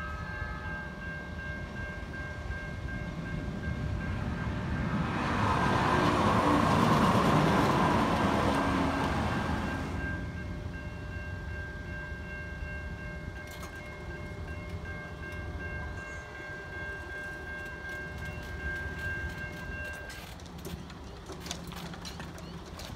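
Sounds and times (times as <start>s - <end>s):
low rumble of traffic and rail: 0.0s - 22.9s.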